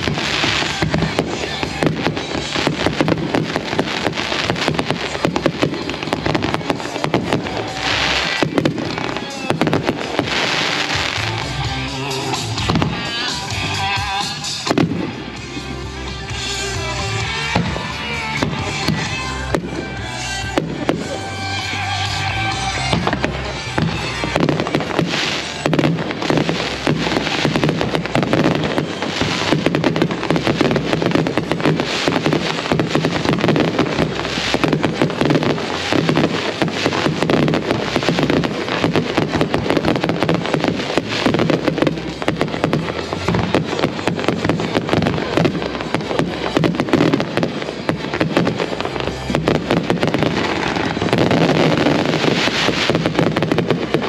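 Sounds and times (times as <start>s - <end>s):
fireworks banging and crackling: 0.0s - 54.0s
music playing: 0.0s - 54.0s.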